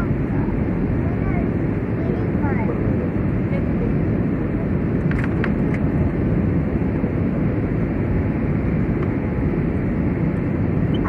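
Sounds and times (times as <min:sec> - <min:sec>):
jet engine roar in cabin: 0:00.0 - 0:11.0.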